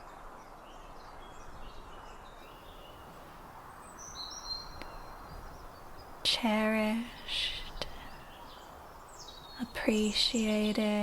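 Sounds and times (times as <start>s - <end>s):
birds chirping faintly: 0.0s - 11.0s
steady background hiss: 0.0s - 11.0s.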